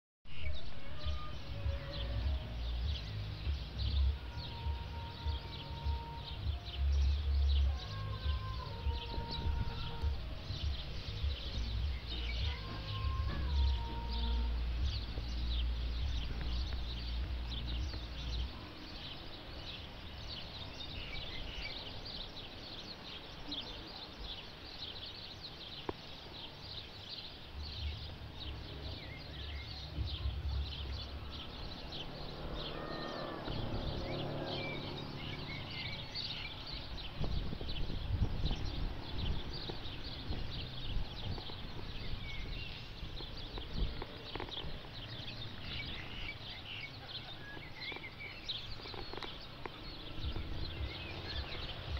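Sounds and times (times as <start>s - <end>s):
small birds chirping: 0.3s - 51.9s.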